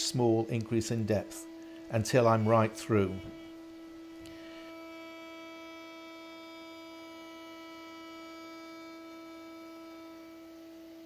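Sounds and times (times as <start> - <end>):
router high-pitched whine: 0.0 - 11.0.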